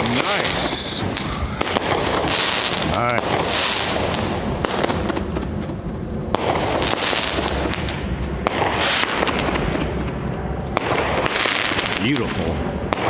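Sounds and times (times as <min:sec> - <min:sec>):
firework bangs: 0:00.0 - 0:13.0
hissing crackle: 0:00.0 - 0:13.0.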